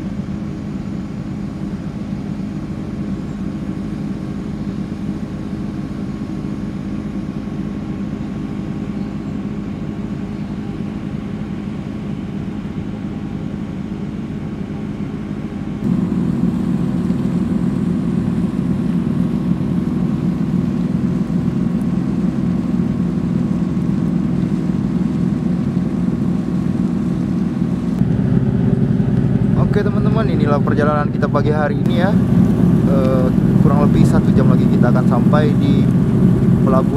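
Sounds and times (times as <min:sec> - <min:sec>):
ferry engine droning: 0:00.0 - 0:36.9.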